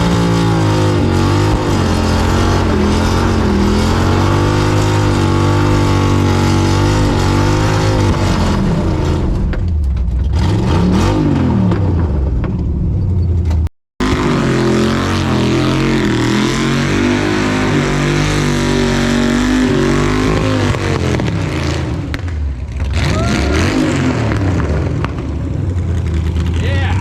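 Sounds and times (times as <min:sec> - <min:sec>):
car engine revving and driving by: 0:00.0 - 0:27.0.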